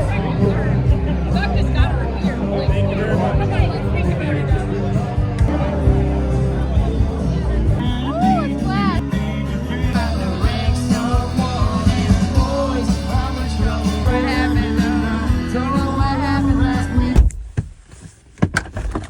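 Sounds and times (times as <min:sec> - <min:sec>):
live rock band with singer: 0:00.0 - 0:17.3.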